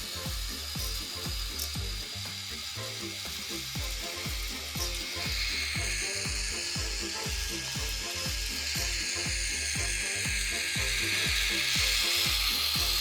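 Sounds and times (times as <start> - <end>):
motor hiss: 0.0 - 13.0.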